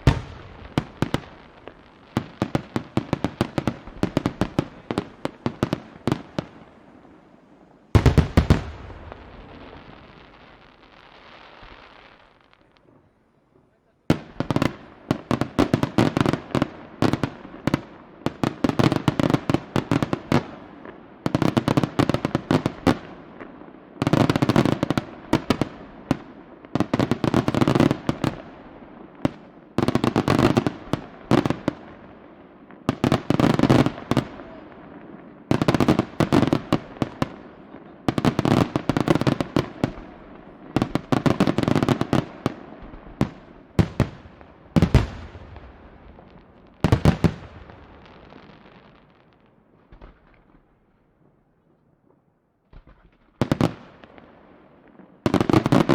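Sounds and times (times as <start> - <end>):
fireworks bangs and cracks: 0.0 - 51.4, 52.7 - 55.9.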